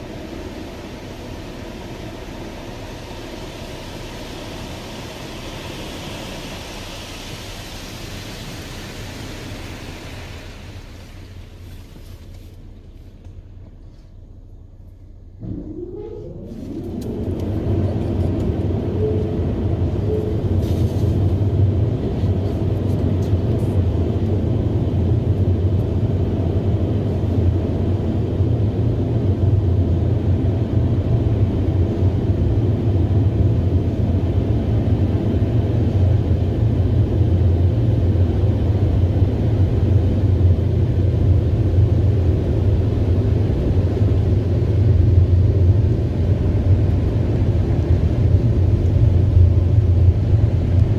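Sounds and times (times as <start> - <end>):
car wash machine drone: 0.0 - 50.9.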